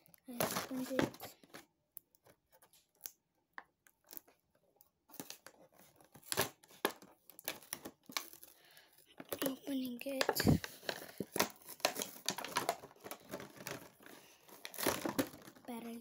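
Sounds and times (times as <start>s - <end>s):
packaging rustling and tearing: 0.1s - 3.2s, 3.9s - 16.0s.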